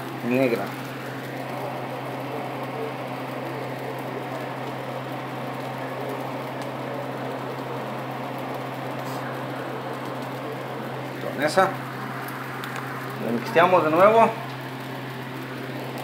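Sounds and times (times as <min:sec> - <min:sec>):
constant low hum: 0:00.0 - 0:16.0
rice frying in a pan: 0:00.0 - 0:16.0.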